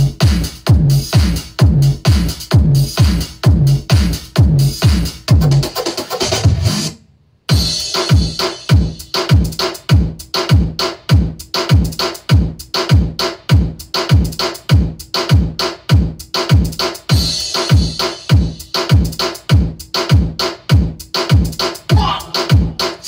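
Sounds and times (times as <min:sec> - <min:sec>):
deep drum-machine kicks: 0:00.0 - 0:05.8, 0:07.5 - 0:23.0
bass-heavy electronic dance music: 0:00.0 - 0:23.0.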